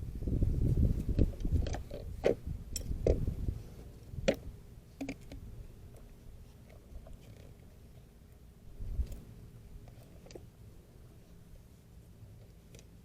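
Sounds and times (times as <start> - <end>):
low rumbling handling noise: 0.0 - 13.0.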